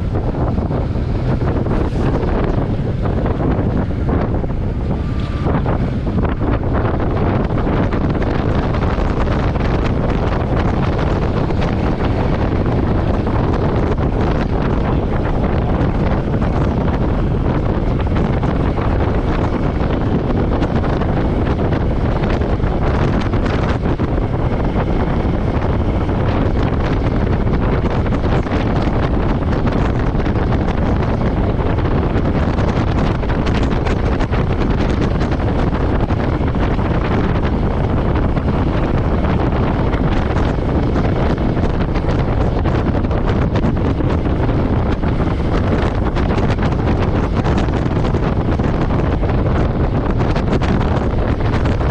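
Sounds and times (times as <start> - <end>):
motorcycle engine running: 0.0 - 51.9
wind noise on microphone: 0.0 - 51.9.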